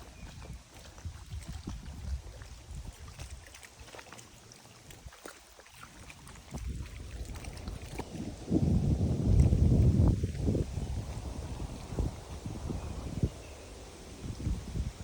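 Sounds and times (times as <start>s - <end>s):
wind rumbling on microphone: 0.0s - 3.6s, 5.9s - 15.0s
faint water lapping: 0.0s - 15.0s.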